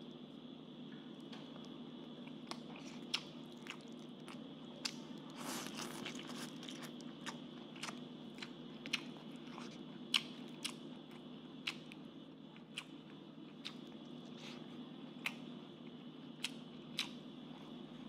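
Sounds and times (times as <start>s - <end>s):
steady low hum: 0.0s - 18.0s
person chewing crunchy food: 1.6s - 18.0s.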